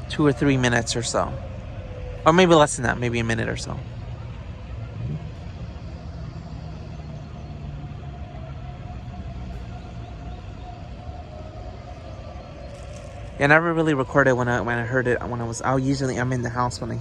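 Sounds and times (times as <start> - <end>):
distant warning siren: 0.0 - 17.0
low rumble: 0.0 - 17.0.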